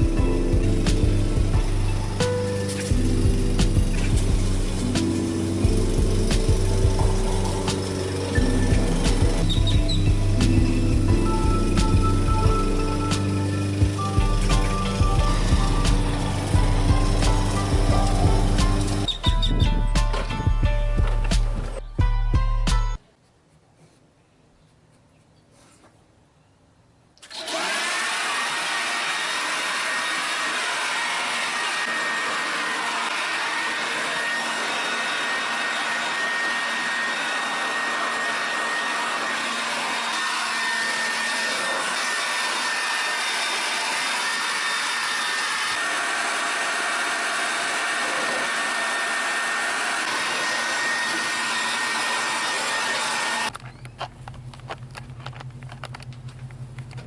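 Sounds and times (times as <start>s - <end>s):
electric fan motor whining: 0.0s - 22.1s, 27.3s - 57.0s.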